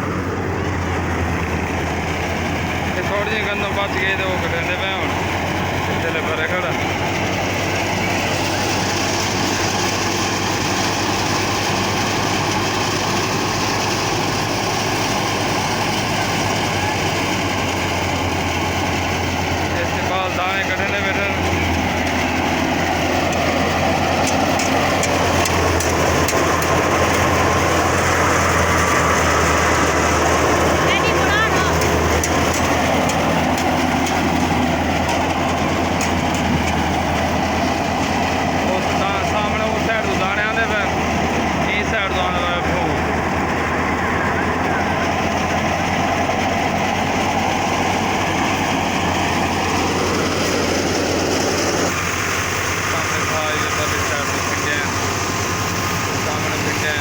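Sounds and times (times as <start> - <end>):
tractor engine hum: 0.0 - 57.0
wheat thresher running: 0.0 - 57.0.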